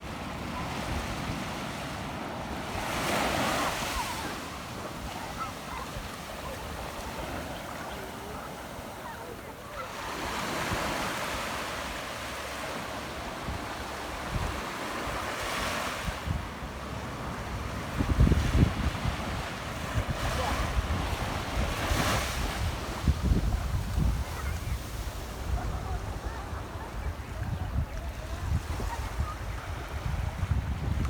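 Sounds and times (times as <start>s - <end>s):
waves washing onto beach: 0.0s - 31.0s.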